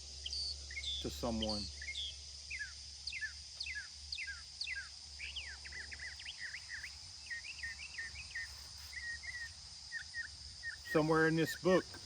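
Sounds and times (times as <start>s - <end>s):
high-pitched insect trill: 0.0s - 12.0s
songbirds singing: 0.0s - 12.0s.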